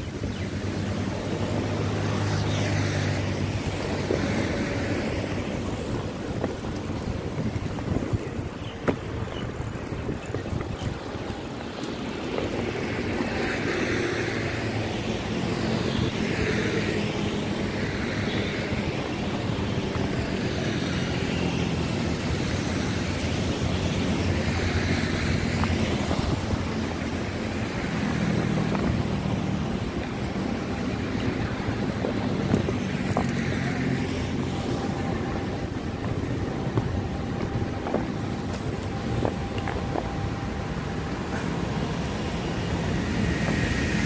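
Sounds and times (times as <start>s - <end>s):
skate wheels rolling on concrete: 0.0s - 44.0s.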